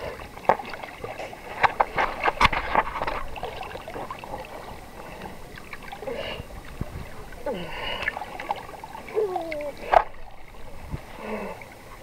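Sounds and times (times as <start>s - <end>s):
sea water lapping and splashing: 0.0s - 12.0s.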